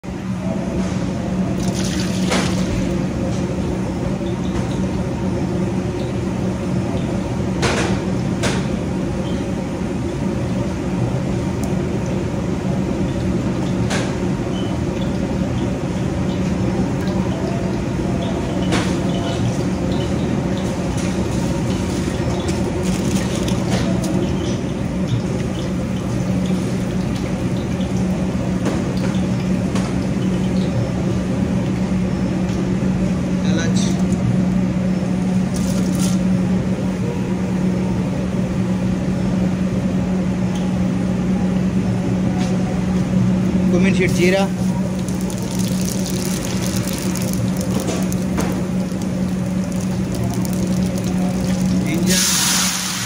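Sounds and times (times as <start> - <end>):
kitchen equipment roar and hum: 0.0 - 53.0.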